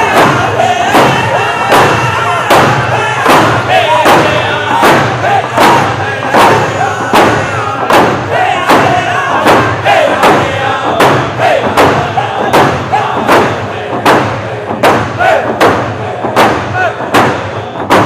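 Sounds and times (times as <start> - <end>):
men singing in unison: 0.0 - 17.8
hand drums beating: 0.0 - 18.0.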